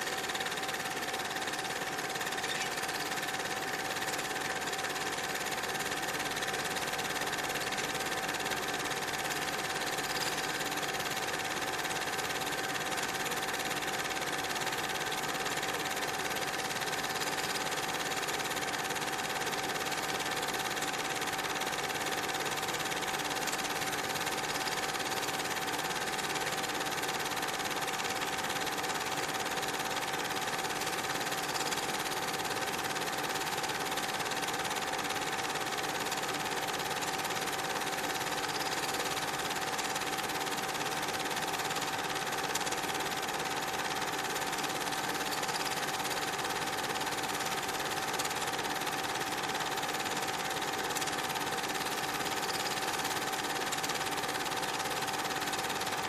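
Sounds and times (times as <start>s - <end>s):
film projector whirring and clattering: 0.0s - 56.0s.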